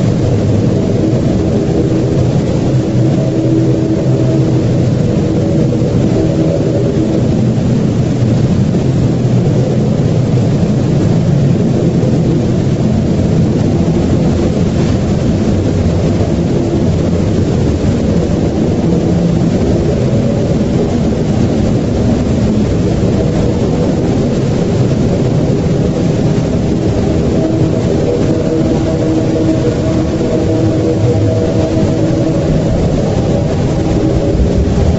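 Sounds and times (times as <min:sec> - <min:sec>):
faint drone: 0:00.0 - 0:34.9
loud low rumble: 0:00.0 - 0:34.9.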